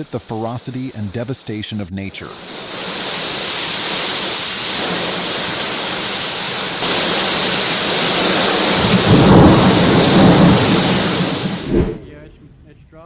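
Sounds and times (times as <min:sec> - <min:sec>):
heavy rain pouring: 0:00.0 - 0:12.3
rolling thunder rumble: 0:02.3 - 0:13.0.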